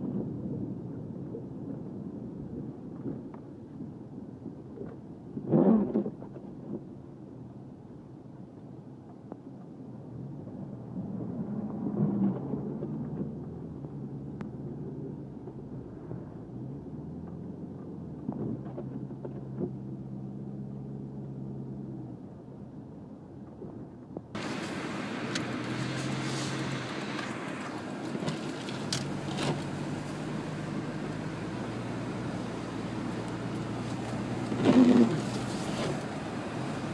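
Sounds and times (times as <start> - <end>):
car engine hum inside cabin: 0.0 - 36.9
road noise: 0.0 - 36.9.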